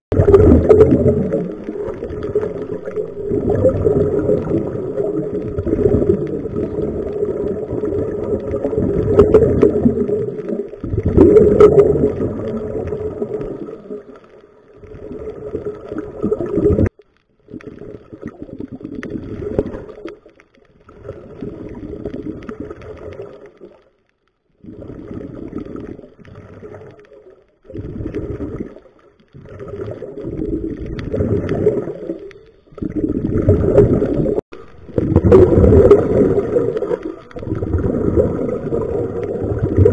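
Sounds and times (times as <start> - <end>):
underwater exhaust bubbles gurgling: 0.1 - 39.9.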